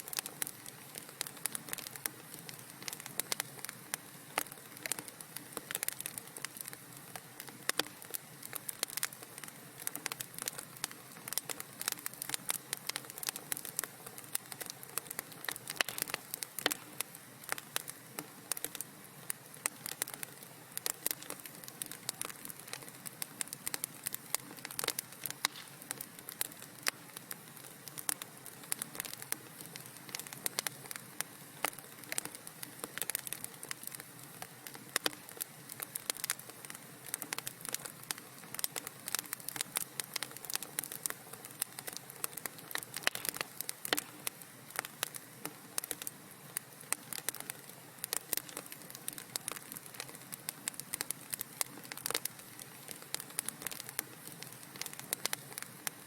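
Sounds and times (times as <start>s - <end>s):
fire pops and snaps: 0.0s - 56.0s
low hiss of flames: 0.0s - 56.0s
wood fire crackling: 0.0s - 56.0s.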